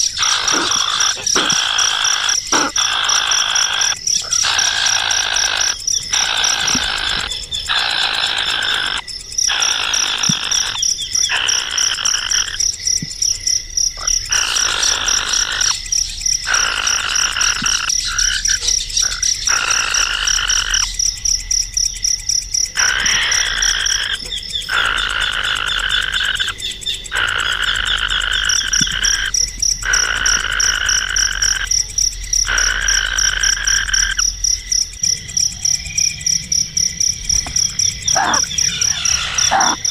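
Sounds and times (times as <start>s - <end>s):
loud buzzy animal calls: 0.0s - 12.7s, 14.0s - 20.9s, 22.7s - 31.8s, 32.4s - 34.3s, 37.3s - 39.9s
high pulsing insect trill: 0.0s - 39.9s.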